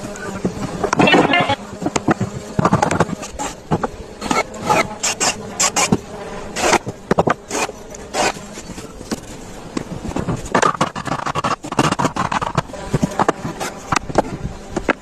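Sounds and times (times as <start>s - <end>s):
scraping on wood: 0.0s - 15.0s.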